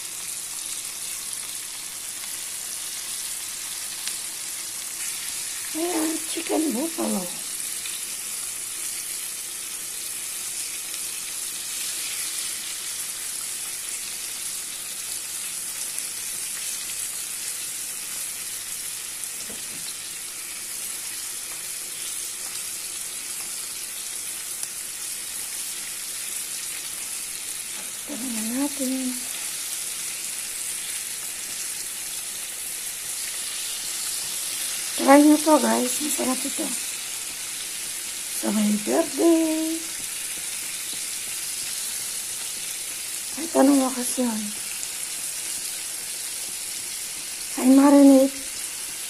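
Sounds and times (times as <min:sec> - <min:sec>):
chicken frying in oil: 0:00.0 - 0:49.0.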